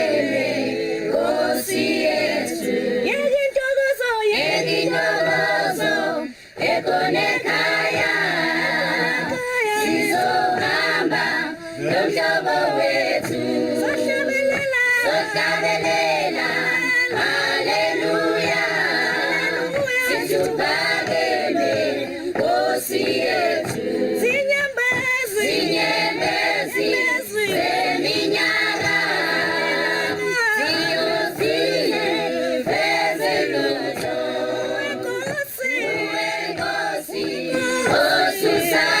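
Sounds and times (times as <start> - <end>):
choir singing unaccompanied: 0.0 - 39.0.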